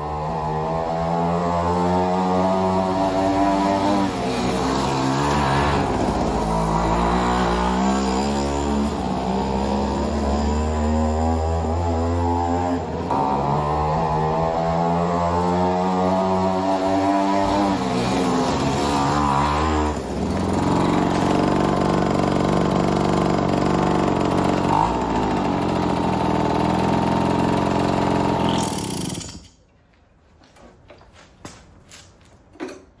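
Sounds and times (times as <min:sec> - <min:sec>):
moped engine running: 0:00.0 - 0:29.4.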